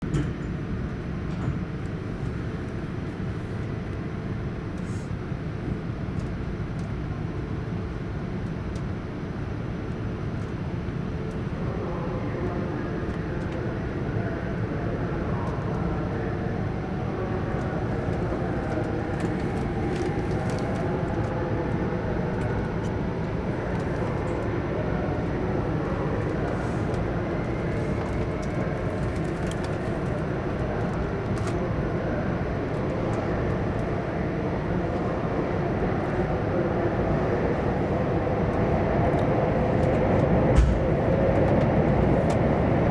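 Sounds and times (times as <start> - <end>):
train rumble inside carriage: 0.0 - 42.9.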